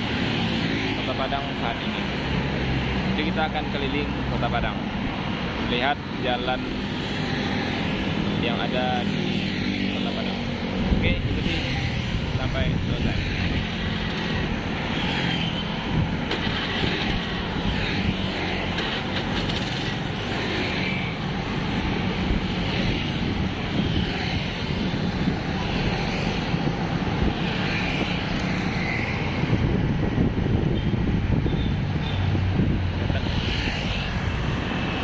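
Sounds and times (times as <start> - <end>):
passing traffic: 0.0 - 35.0
wind and road noise: 0.0 - 35.0.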